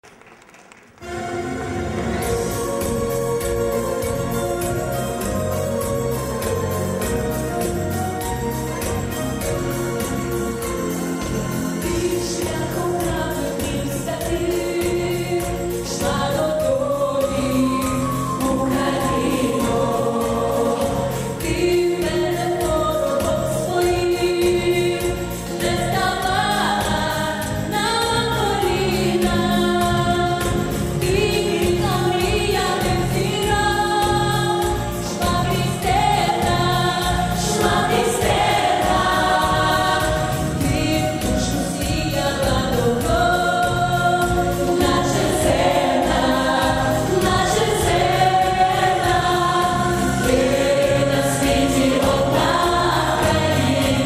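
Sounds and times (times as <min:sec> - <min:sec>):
women singing in harmony: 0:01.0 - 0:54.0
pop music with steady beat: 0:02.2 - 0:54.0.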